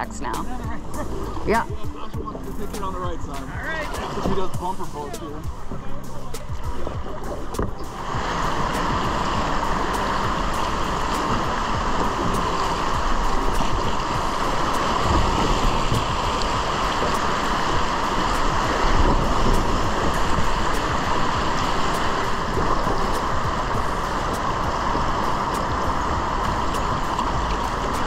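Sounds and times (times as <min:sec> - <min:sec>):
water rushing over rapids: 0:00.0 - 0:28.0.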